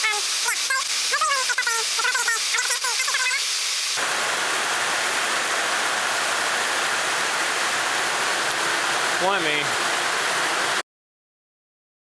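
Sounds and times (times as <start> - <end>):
heavy rain: 0.0 - 10.8.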